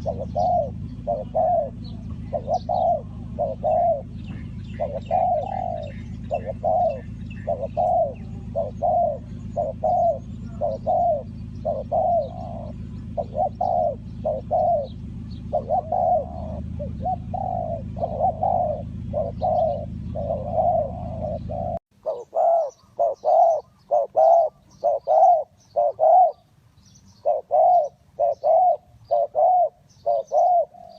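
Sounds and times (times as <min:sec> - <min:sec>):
dove cooing: 0:00.0 - 0:30.9
small birds chirping: 0:00.0 - 0:30.9
steady low hum: 0:00.0 - 0:30.9.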